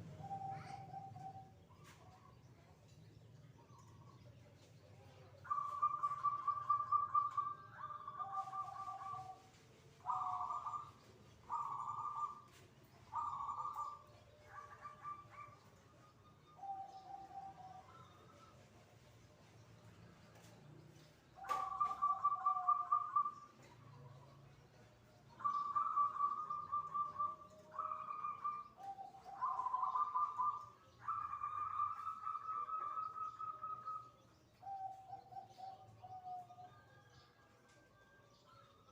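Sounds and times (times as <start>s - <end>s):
dove cooing: 0.0s - 2.3s, 5.4s - 18.8s, 21.0s - 37.1s.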